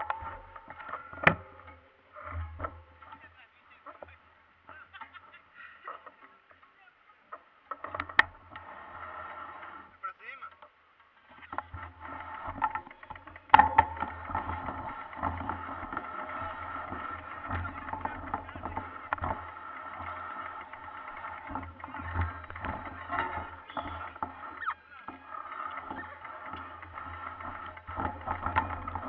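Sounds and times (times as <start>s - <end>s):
bikes rattling and knocking: 0.0s - 29.0s.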